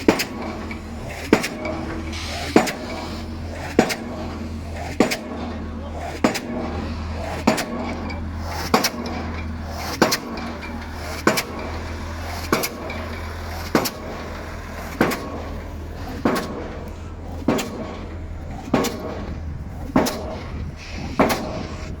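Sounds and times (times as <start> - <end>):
rig engine humming: 0.0 - 22.0.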